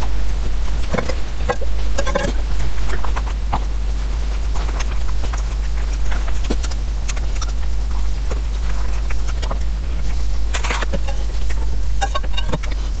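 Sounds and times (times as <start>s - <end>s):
steady low hum: 0.0s - 13.0s
chewing and mouth clicks: 0.8s - 12.8s.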